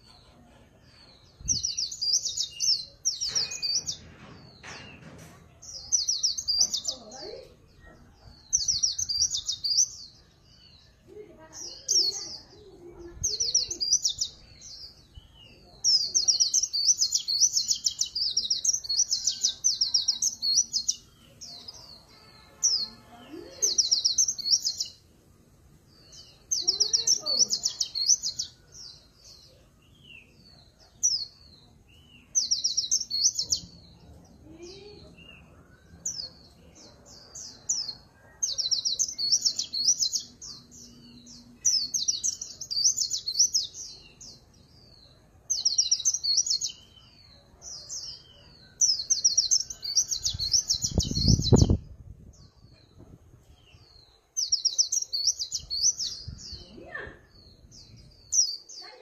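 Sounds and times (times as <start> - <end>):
bird singing high twittering trills: 0.9 - 25.1, 25.9 - 59.0.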